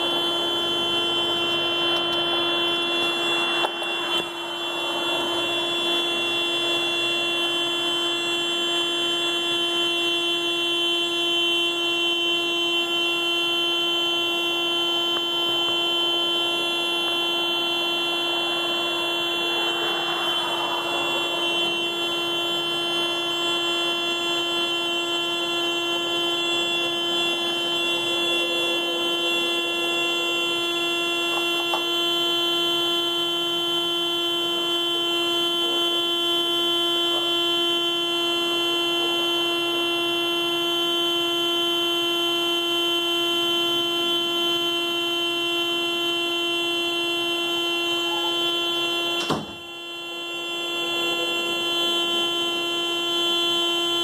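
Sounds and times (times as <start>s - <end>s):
car alarm horn tone: 0.0s - 54.0s.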